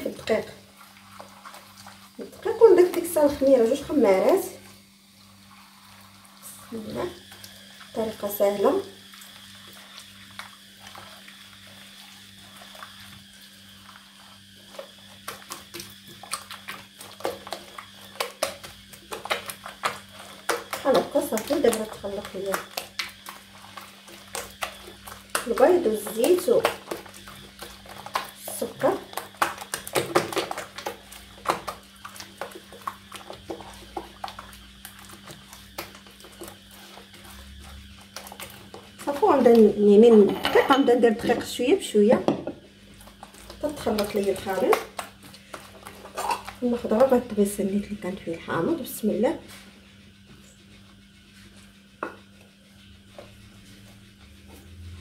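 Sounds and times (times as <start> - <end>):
hand squelching batter in bowl: 0.0 - 55.0.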